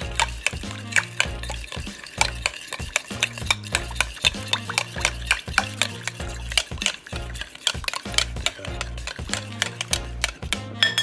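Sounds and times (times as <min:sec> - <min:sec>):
utensil clicking against glass: 0:00.0 - 0:11.0
whisking in a glass bowl: 0:00.0 - 0:11.0.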